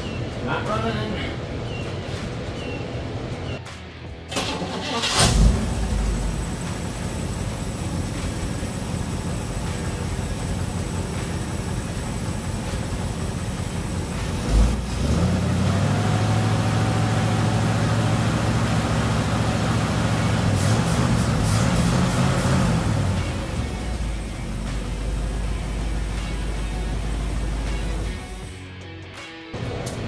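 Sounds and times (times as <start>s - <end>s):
car engine running: 4.3s - 28.6s.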